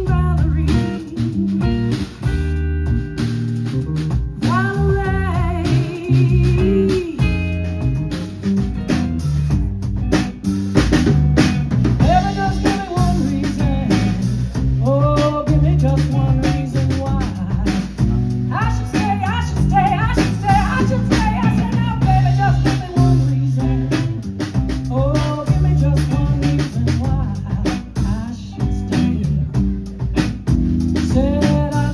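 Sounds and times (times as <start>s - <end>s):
bass line: 0.0s - 31.9s
drum kit beat: 0.0s - 31.9s.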